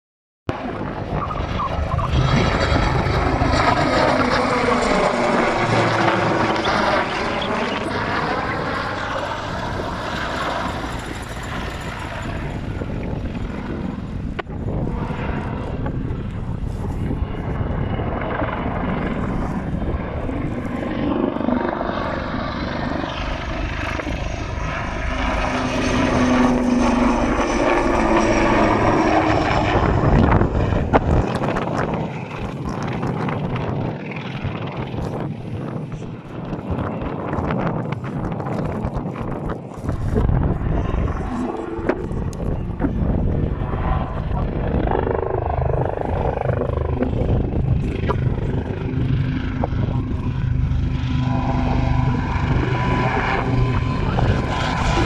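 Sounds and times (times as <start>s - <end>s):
helicopter engine whine: 0.5s - 55.0s
helicopter rotor noise: 0.5s - 55.0s.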